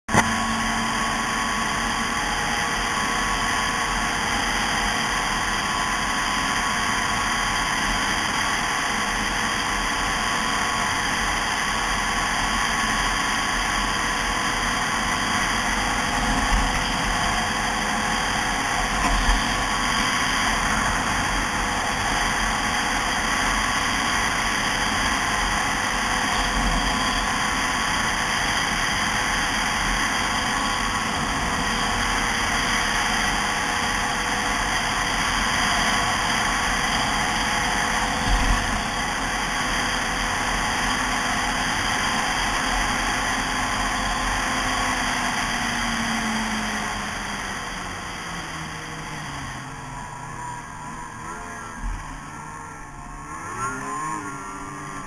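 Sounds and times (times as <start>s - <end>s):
rush of noise: 0.1s - 55.0s
snowmobile engine running: 0.1s - 55.0s.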